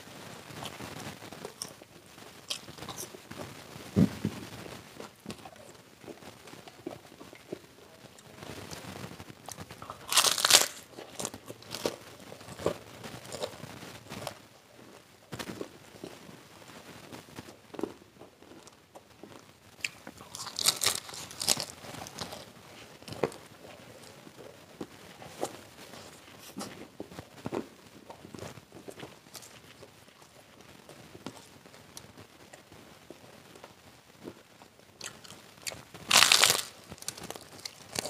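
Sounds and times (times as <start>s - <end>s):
crunching of crispy snacks: 0.5s - 3.4s, 4.1s - 14.5s, 17.3s - 32.7s, 33.5s - 38.0s.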